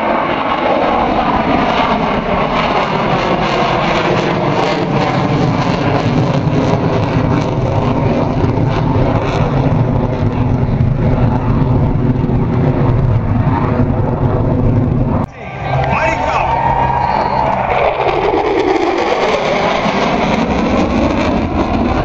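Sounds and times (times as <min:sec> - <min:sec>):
fighter jet engine roaring: 0:00.0 - 0:22.0.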